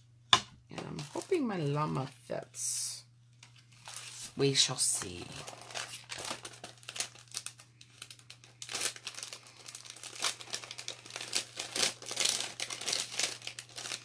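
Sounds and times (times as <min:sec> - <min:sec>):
plastic sheet crinkling: 0:00.7 - 0:02.1, 0:03.3 - 0:14.0.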